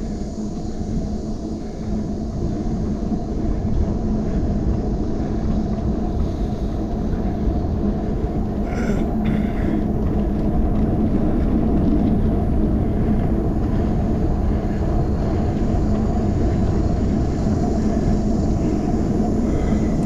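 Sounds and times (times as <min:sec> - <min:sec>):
bicycle tyre road noise: 0:00.0 - 0:20.0
wind rumble on microphone: 0:00.0 - 0:20.0.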